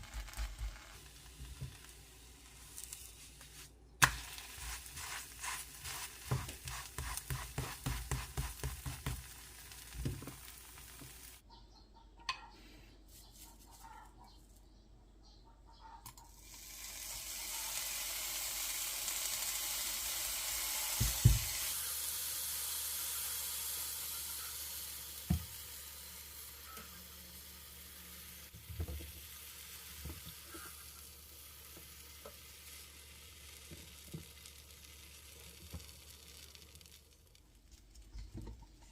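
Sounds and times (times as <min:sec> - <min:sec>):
batter sizzling in oil: 0:00.0 - 0:11.4, 0:16.4 - 0:37.7.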